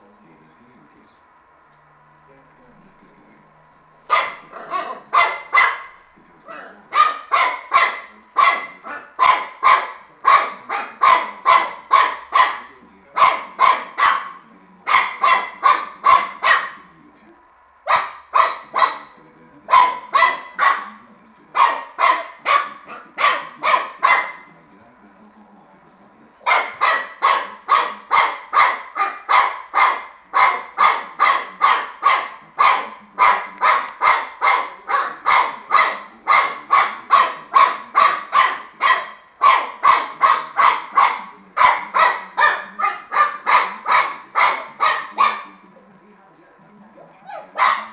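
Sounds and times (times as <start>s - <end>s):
puppy barking: 4.1s - 16.9s, 17.9s - 24.5s, 26.4s - 45.6s, 47.2s - 47.9s.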